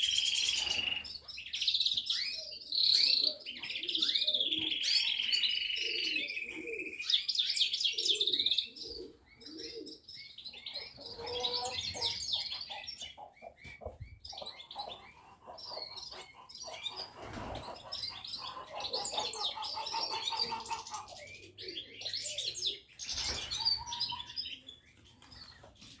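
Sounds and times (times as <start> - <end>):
songbirds chirping and singing: 0.0 - 26.0.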